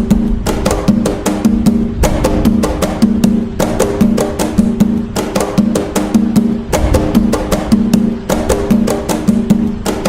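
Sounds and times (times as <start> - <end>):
hand drums playing a rhythm: 0.0 - 10.0.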